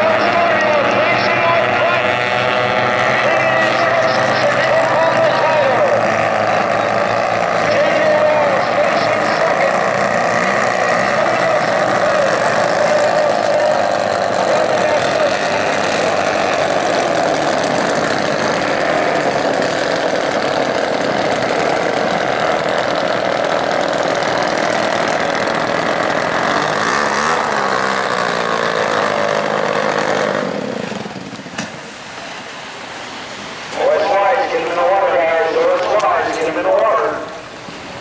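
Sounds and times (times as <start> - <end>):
outboard motor running at speed: 0.0 - 38.0.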